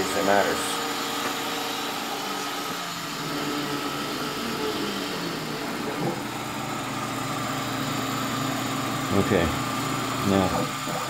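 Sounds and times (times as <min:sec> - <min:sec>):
milling machine cutting: 0:00.0 - 0:11.0.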